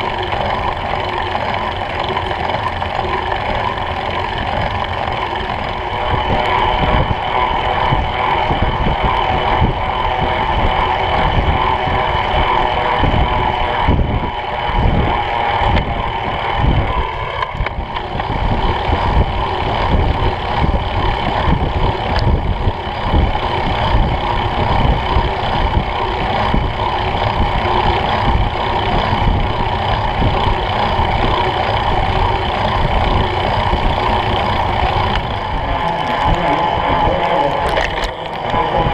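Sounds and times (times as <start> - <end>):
bicycle tyres on wet asphalt: 0.0 - 38.9
wind buffeting microphone: 0.0 - 38.9.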